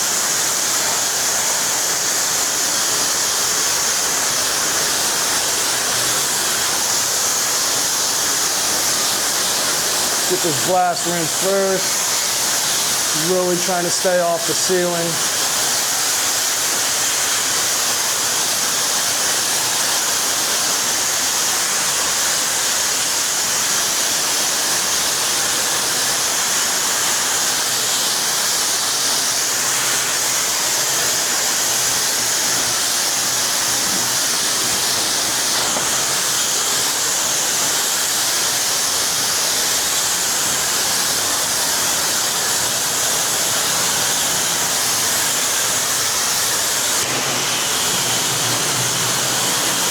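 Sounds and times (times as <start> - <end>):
pressure washer spraying water: 0.0 - 49.9.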